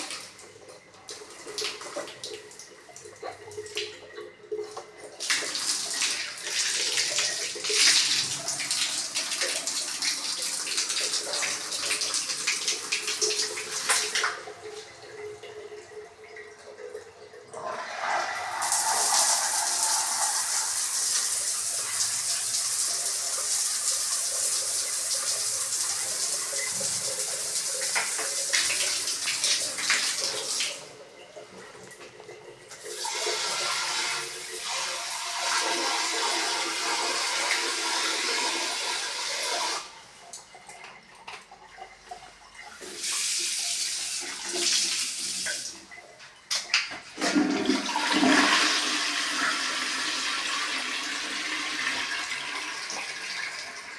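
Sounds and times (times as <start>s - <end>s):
water rushing through fixtures: 0.0s - 53.9s.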